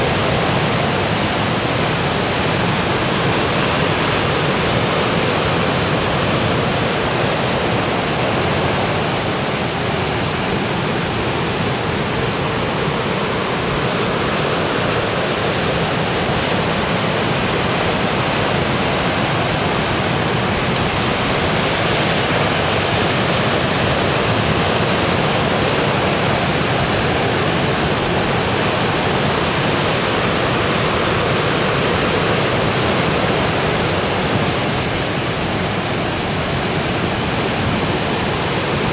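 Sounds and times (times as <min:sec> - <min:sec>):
surf rushing roar: 0:00.0 - 0:38.9.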